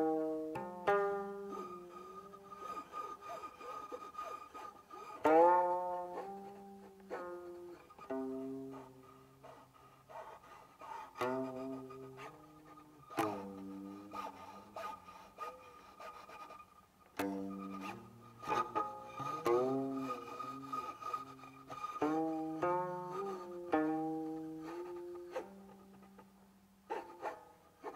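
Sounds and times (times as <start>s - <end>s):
guqin plucked notes: 0.0s - 9.6s, 11.2s - 16.0s, 17.1s - 26.4s.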